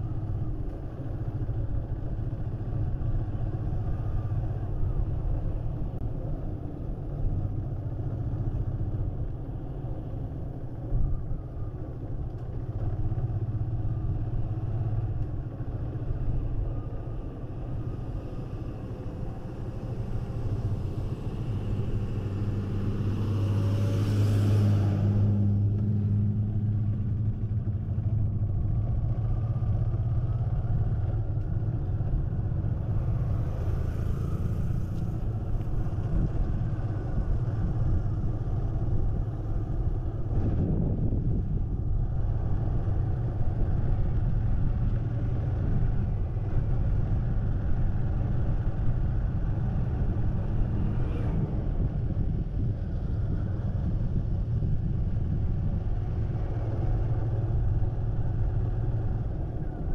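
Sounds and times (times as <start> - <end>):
passing vehicle: 0.0 - 59.9
road and wind noise: 0.0 - 59.9.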